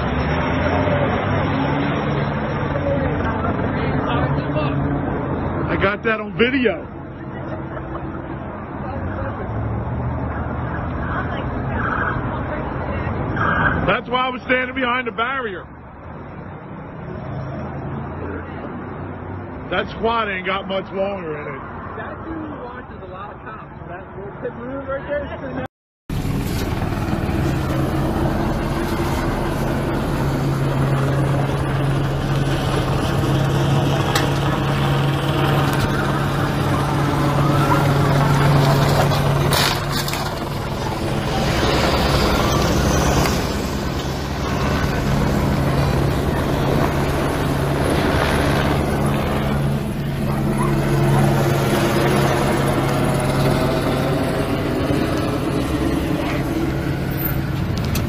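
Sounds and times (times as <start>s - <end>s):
vehicle engine droning: 0.0s - 14.7s, 26.1s - 58.0s.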